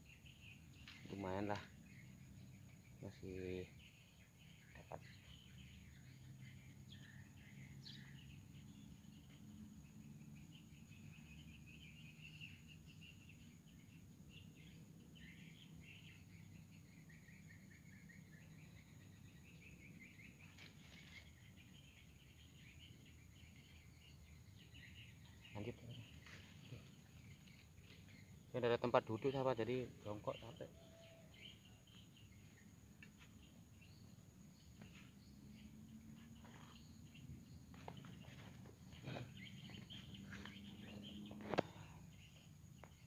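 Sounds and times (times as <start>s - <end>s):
faint chirping of small animals: 0.0s - 43.0s.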